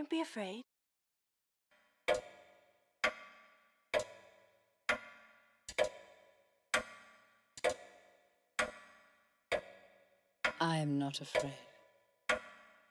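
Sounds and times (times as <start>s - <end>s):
clock ticking with metallic ring: 2.0s - 12.9s.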